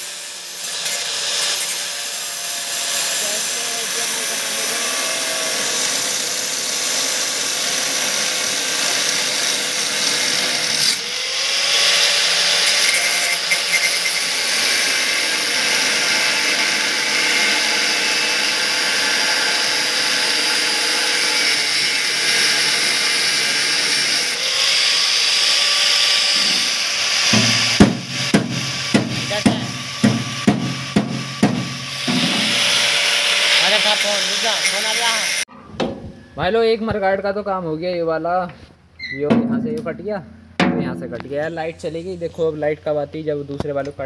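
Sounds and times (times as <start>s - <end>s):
angle grinder cutting metal: 0.0s - 35.5s.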